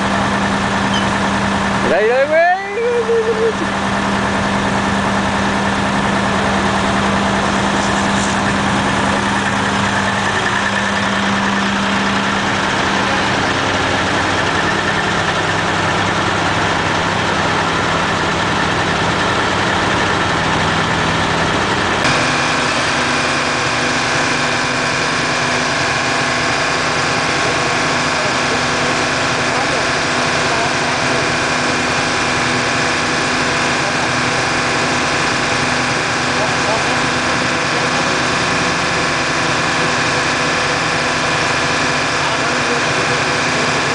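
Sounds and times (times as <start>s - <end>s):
heavy truck engine running: 0.0s - 43.9s.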